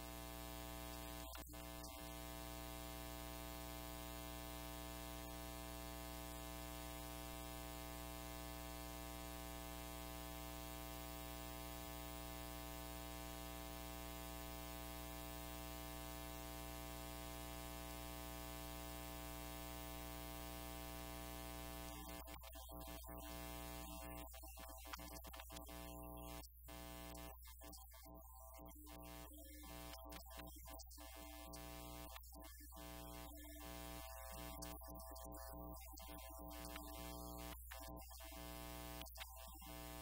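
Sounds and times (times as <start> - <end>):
steady buzzing hum: 0.0 - 40.0.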